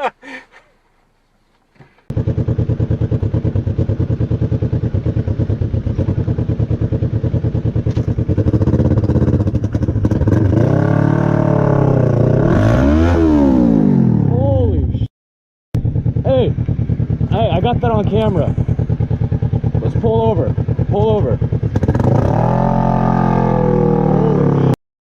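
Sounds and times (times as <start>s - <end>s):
motorcycle engine running: 2.1s - 14.9s, 15.8s - 24.8s.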